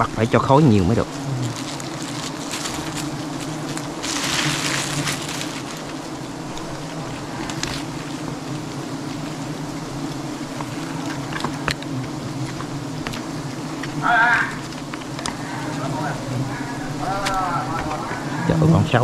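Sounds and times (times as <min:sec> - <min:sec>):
bees buzzing: 0:00.0 - 0:19.0
rustling hiss: 0:00.0 - 0:19.0.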